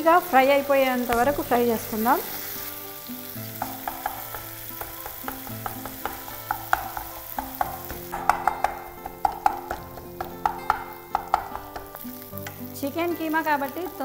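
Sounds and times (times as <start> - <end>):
light sizzle: 0.0 - 14.0.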